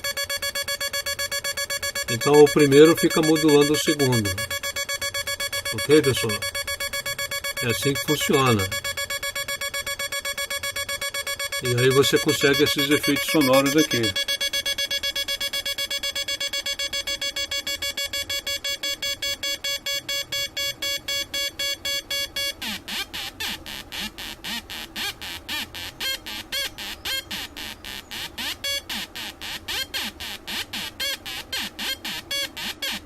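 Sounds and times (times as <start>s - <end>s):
electronic buzzing tone from loudspeaker: 0.0s - 33.0s.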